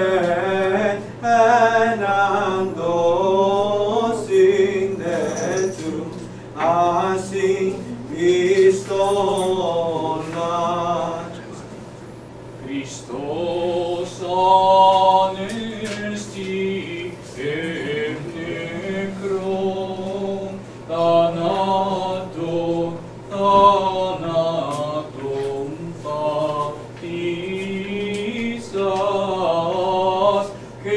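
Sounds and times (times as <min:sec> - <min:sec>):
choir chanting a hymn: 0:00.0 - 0:11.5, 0:12.6 - 0:30.9.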